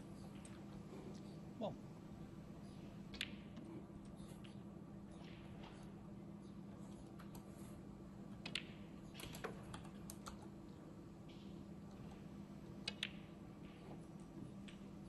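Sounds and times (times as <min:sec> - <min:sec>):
faint steady hum: 0:00.0 - 0:15.0
snooker balls clicking: 0:02.8 - 0:15.0.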